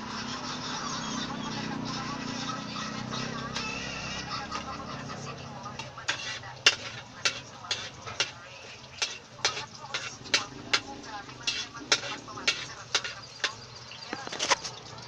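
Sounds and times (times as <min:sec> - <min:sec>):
metal spatula scraping a wok: 0:00.0 - 0:14.7.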